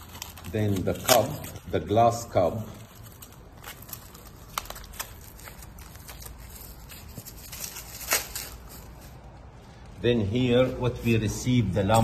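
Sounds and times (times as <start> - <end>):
foam wrapping rustling: 0.0 - 10.0.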